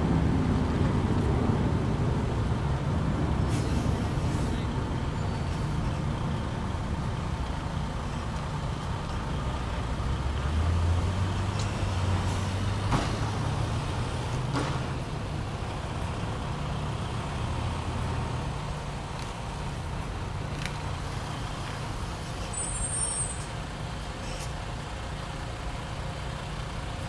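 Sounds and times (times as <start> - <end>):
diesel truck engine rumbling: 0.0 - 27.0.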